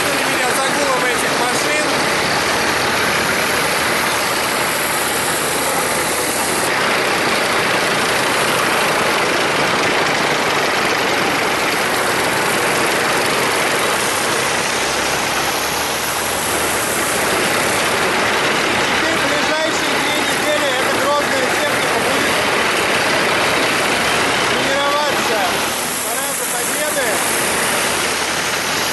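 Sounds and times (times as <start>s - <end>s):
tracked vehicles engine noise: 0.0s - 28.9s.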